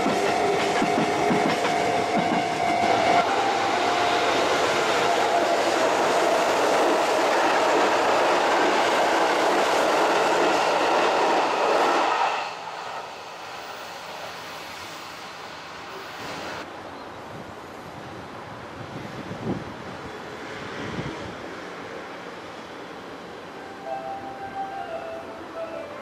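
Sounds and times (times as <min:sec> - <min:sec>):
distant train approaching: 0:00.0 - 0:16.7, 0:19.9 - 0:26.0
wheels rushing on rail: 0:00.0 - 0:16.7, 0:17.4 - 0:26.0.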